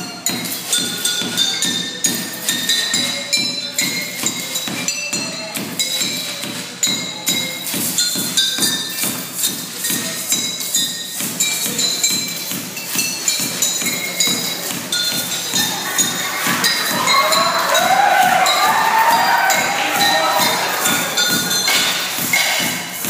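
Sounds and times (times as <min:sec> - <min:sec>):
glass bottles clinking: 0:00.0 - 0:23.0.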